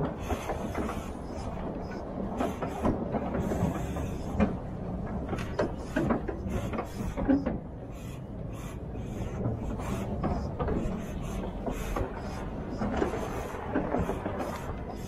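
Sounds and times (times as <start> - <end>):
truck knocks and rattles: 0.0 - 8.0, 9.0 - 15.0
truck diesel engine rumbling: 0.0 - 15.0.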